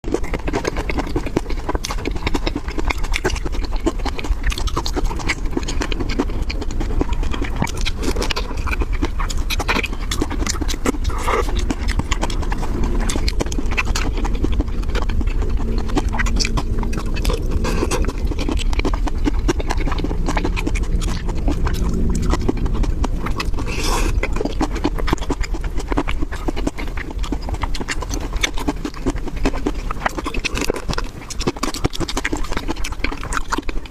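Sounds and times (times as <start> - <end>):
person chewing and smacking: 0.0 - 33.9.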